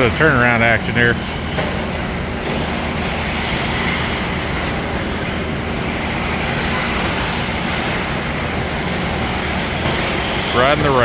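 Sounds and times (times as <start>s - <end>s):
rc car motors whirring: 0.0s - 11.0s.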